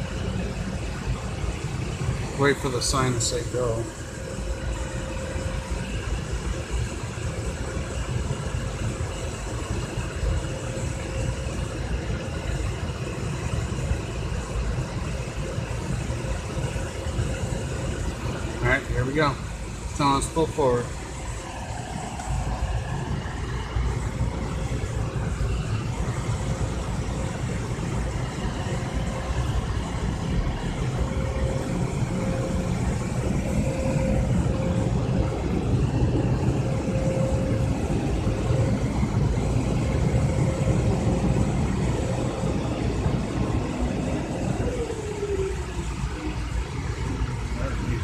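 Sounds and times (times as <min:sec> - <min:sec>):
car engine idling: 0:00.0 - 0:48.0
mid-pitched whine: 0:00.0 - 0:48.0.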